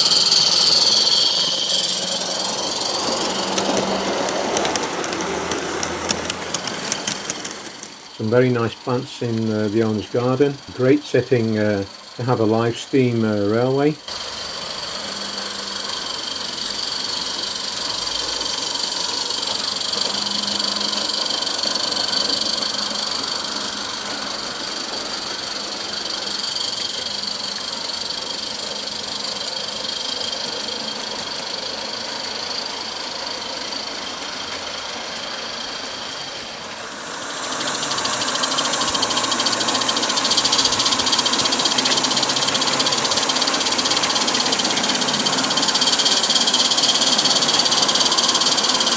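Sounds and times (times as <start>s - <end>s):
steam locomotive hissing and chuffing: 0.0s - 48.9s.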